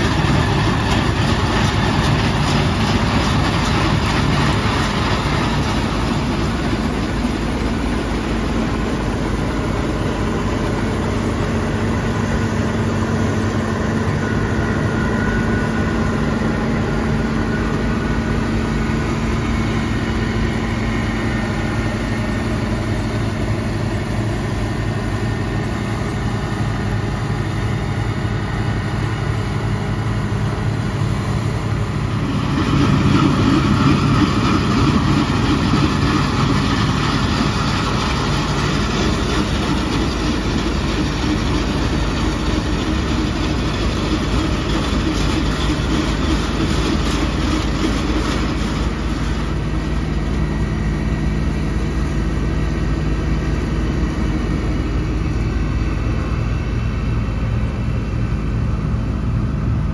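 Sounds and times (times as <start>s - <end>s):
combine harvester engine drone: 0.0s - 59.9s.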